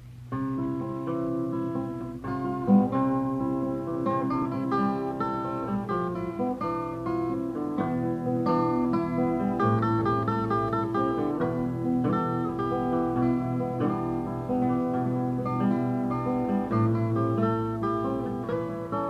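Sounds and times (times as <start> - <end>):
acoustic guitar picking and strumming: 0.0 - 19.0.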